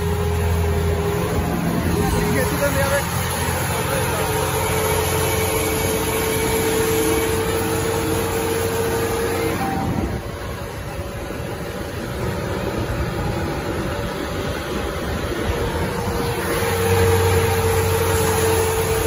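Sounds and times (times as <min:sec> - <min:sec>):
tractor diesel engine running: 0:00.0 - 0:19.0
wind and road noise: 0:00.0 - 0:19.0.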